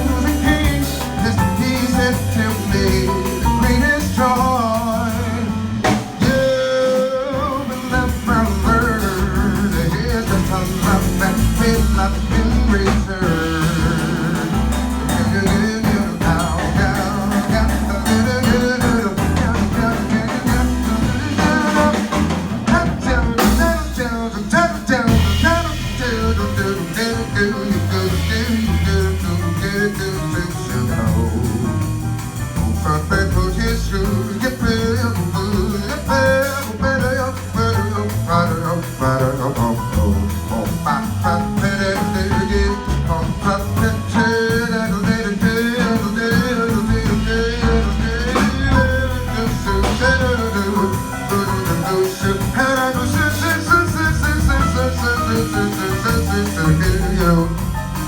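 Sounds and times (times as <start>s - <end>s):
bass: 0.0s - 58.0s
drum kit: 0.0s - 58.0s.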